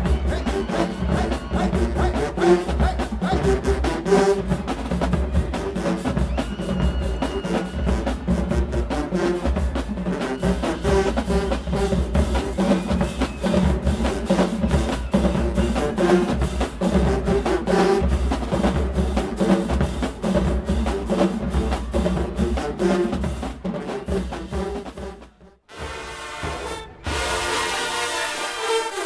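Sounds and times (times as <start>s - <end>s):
snare drum rolls: 0.0s - 29.0s.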